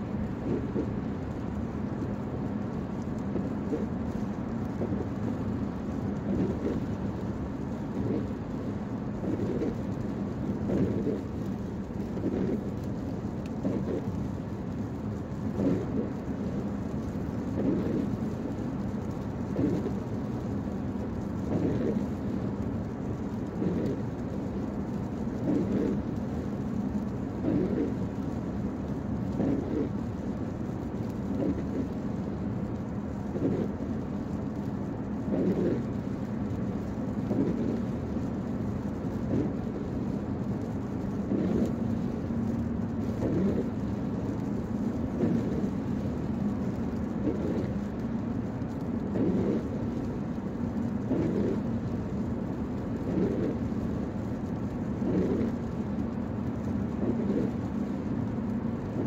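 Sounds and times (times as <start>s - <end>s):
road and tyre noise inside car: 0.0s - 59.0s.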